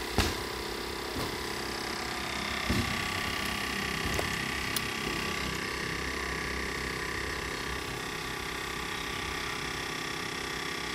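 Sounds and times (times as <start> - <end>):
electric motor humming and whining: 0.0 - 10.9.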